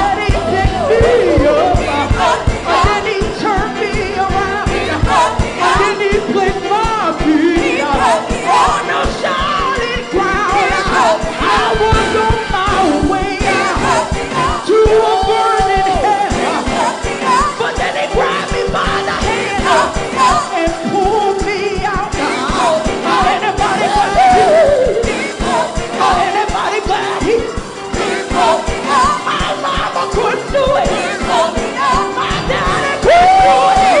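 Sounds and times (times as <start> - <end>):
gospel choir singing: 0.0 - 34.0
live band: 0.0 - 34.0
steady drum beat: 0.0 - 34.0.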